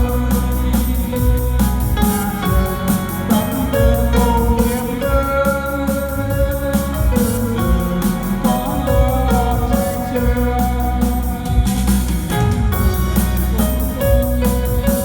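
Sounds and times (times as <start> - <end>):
background music with drums: 0.0 - 15.0.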